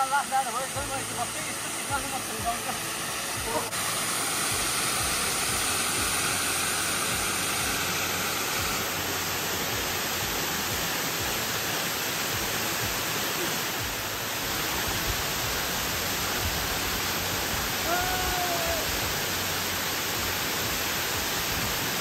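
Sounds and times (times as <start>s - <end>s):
waterfall pouring over rock: 0.0s - 22.0s.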